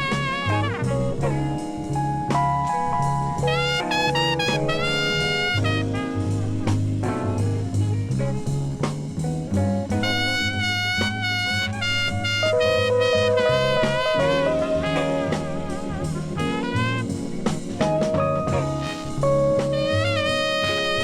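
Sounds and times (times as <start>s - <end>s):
horns with vibrato: 0.0s - 2.1s, 3.0s - 9.2s, 9.9s - 21.0s
drums: 0.0s - 21.0s
walking bass line: 0.0s - 21.0s.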